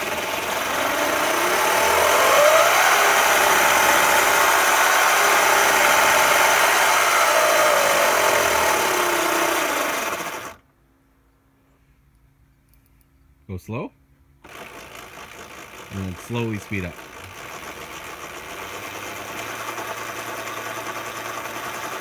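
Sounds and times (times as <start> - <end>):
electric motors whining: 0.0 - 10.6, 14.4 - 22.0.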